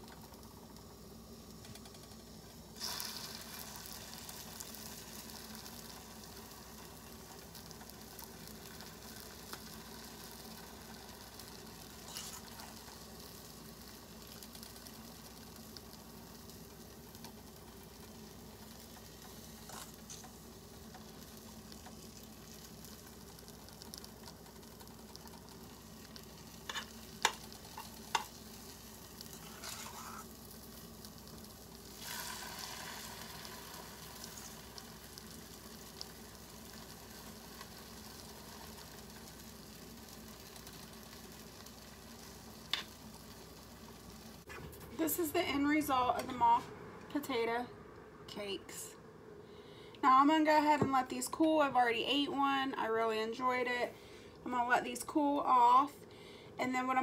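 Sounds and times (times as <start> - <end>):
cakes sizzling in a frying pan: 0.0 - 46.2.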